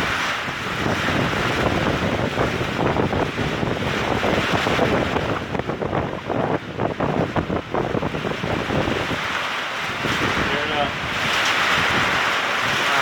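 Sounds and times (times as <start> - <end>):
heavy rain pouring: 0.0 - 13.0
wind buffeting microphone: 0.0 - 13.0.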